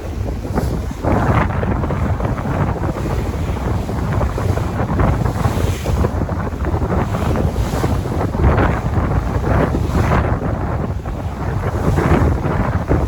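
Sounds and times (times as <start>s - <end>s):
sea waves washing: 0.0s - 13.0s
wind buffeting the microphone: 0.0s - 13.0s.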